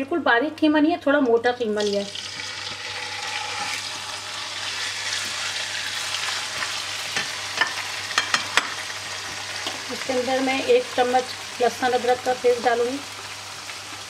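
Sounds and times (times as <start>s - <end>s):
meat sizzling in a wok: 1.8s - 14.0s.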